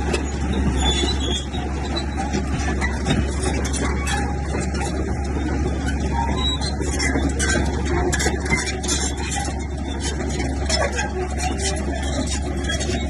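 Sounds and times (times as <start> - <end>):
bulldozer diesel engine droning: 0.0 - 13.0
rattles and clanks: 0.0 - 13.0.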